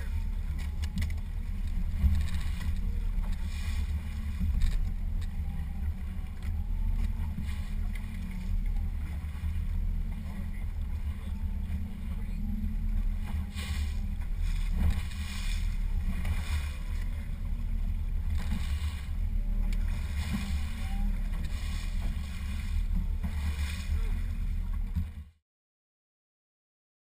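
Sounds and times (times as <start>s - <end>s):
wind and boat rumble: 0.0s - 25.4s.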